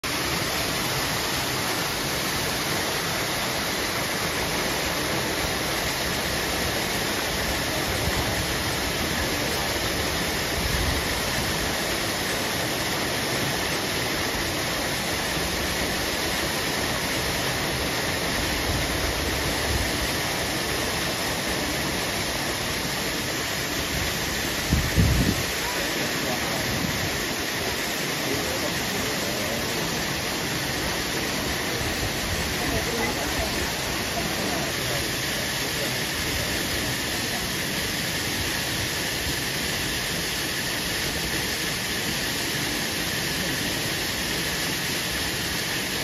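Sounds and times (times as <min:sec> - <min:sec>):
running water rushing: 0:00.0 - 0:46.0.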